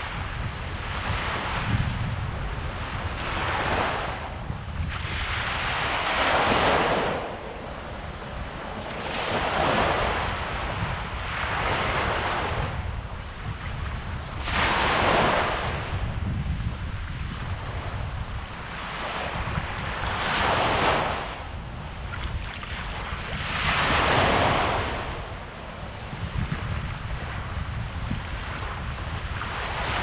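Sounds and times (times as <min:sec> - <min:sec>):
small waves breaking on beach: 0:00.0 - 0:30.0
wind buffeting microphone: 0:00.0 - 0:30.0.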